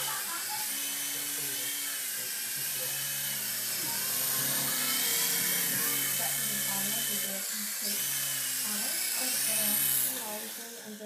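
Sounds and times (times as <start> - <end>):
small helicopter rotors whining: 0.0 - 11.0.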